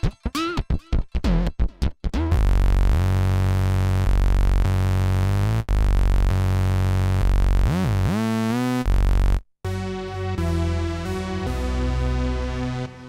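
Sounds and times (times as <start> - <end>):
synthesizer chords with pitch bend: 2.3 - 13.0.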